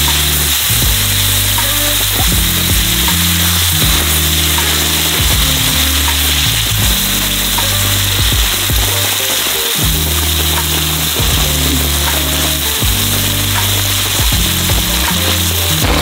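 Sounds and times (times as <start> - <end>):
meat sizzling in a frying pan: 0.0 - 15.8
background music with low notes: 0.0 - 16.0.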